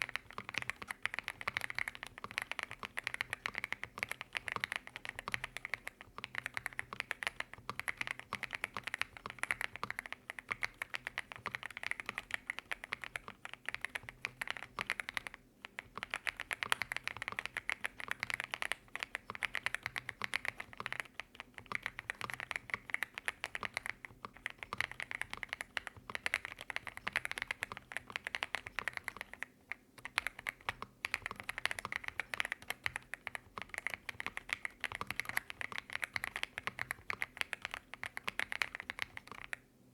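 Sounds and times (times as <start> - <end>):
fast mechanical keyboard typing: 0.0 - 39.6.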